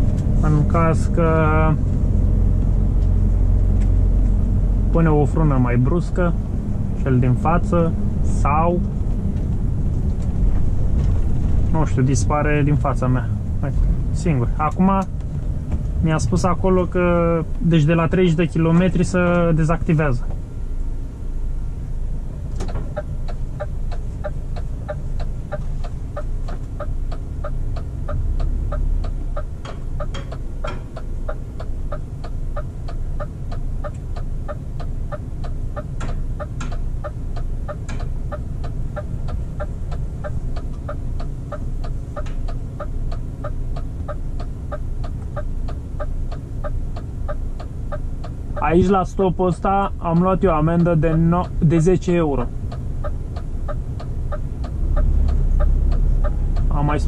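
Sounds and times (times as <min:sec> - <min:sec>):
engine drone and road noise: 0:00.0 - 0:57.0
turn signal ticking: 0:00.0 - 0:57.0.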